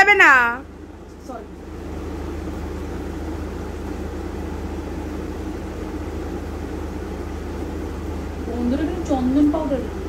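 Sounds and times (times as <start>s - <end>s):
air conditioner droning: 0.0s - 10.0s.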